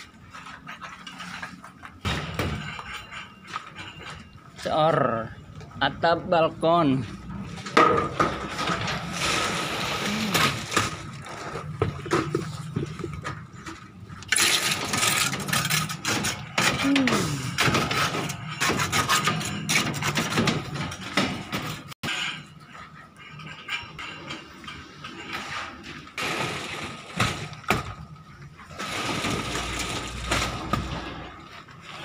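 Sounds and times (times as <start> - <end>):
buckets of wet concrete handled: 0.0 - 19.2, 23.4 - 32.0.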